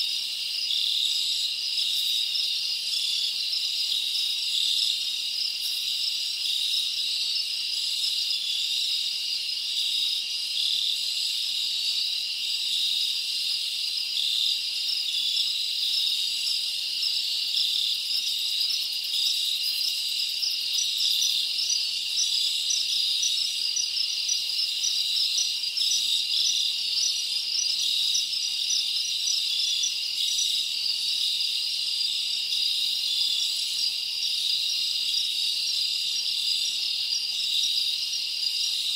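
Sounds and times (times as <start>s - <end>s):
dense insect chorus trilling: 0.0s - 38.9s.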